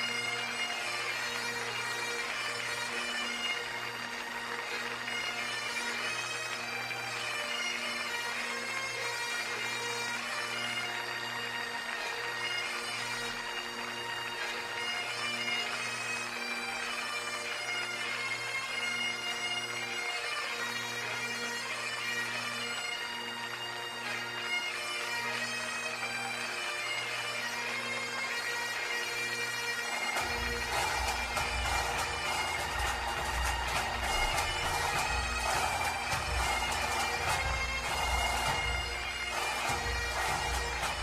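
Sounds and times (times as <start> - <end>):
bagpipe music: 0.0 - 41.0.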